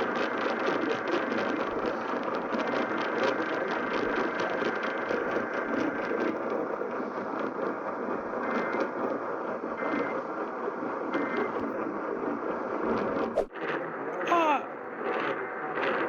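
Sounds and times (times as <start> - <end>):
radio static hiss and crackle: 0.0 - 14.1.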